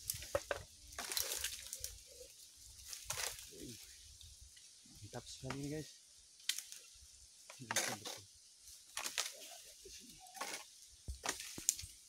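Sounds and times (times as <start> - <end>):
leaves and twigs rustling: 0.0 - 12.0.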